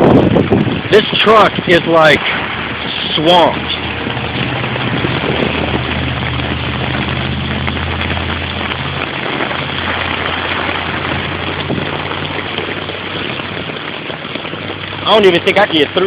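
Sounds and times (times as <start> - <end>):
heavy rain hissing: 0.0 - 16.0
truck engine humming: 2.2 - 16.0.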